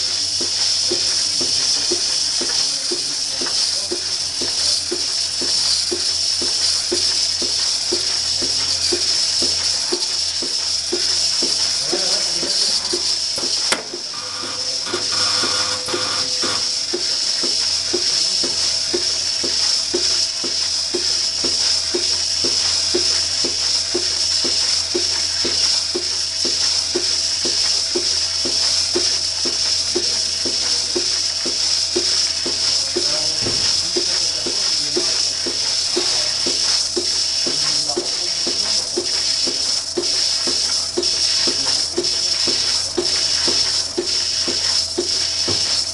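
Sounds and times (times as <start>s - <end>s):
rhythmic pulsator pulsing: 0.0s - 45.9s
vacuum hiss: 0.0s - 45.9s.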